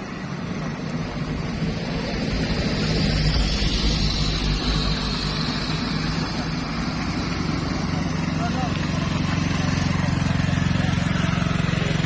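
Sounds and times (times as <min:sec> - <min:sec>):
vehicle engine pulling uphill: 0:00.0 - 0:12.0.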